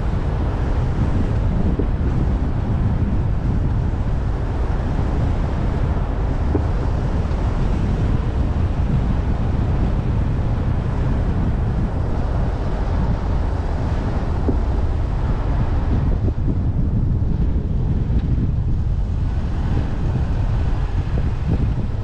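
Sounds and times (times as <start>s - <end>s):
city traffic rumble: 0.0s - 22.0s
wind buffeting microphone: 0.0s - 22.0s.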